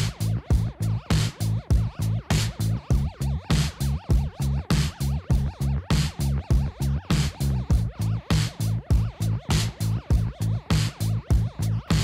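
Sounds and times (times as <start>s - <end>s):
electronic music with pulsing beat: 0.0s - 12.0s.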